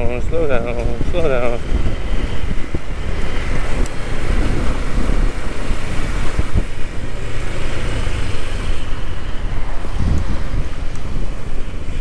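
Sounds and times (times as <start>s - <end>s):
scooter engine droning: 0.0s - 12.0s
wind rushing over microphone: 0.0s - 12.0s.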